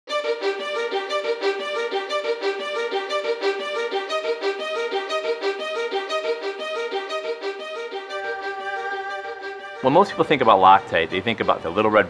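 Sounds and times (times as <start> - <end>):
violin playing short notes: 0.1 - 11.8.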